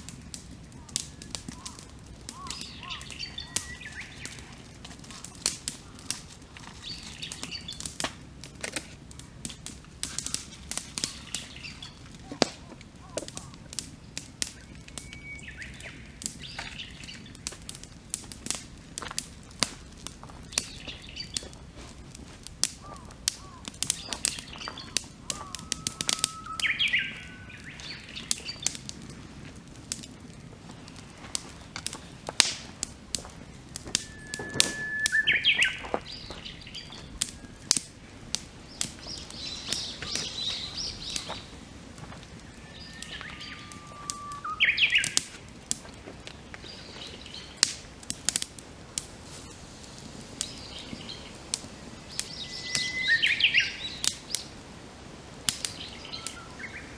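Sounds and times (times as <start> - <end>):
campfire crackling and popping: 0.0 - 56.9
birds calling and singing: 0.1 - 8.0, 10.2 - 18.0, 20.2 - 29.1, 31.3 - 48.4, 49.4 - 54.6, 55.6 - 56.9.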